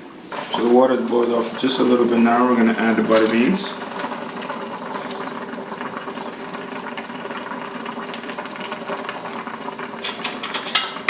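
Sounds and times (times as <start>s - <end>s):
gravy bubbling in a pot: 0.0s - 11.0s.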